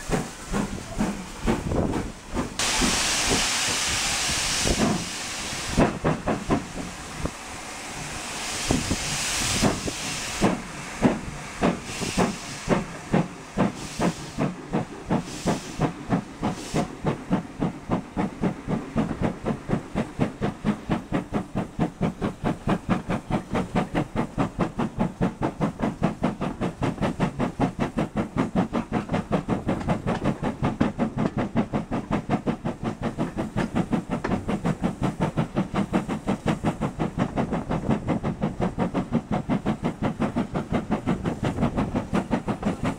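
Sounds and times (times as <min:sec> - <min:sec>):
steam hissing: 0:00.0 - 0:42.9
steam locomotive chuffing: 0:00.0 - 0:42.9.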